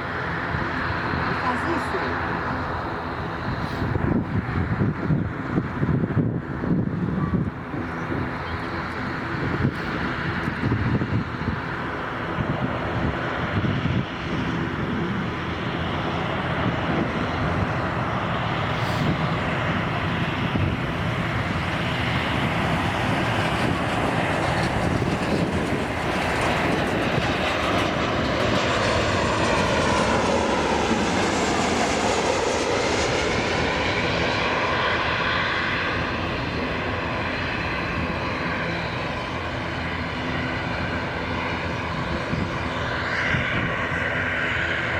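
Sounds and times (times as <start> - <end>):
jet airliner passing by: 0.0 - 44.9.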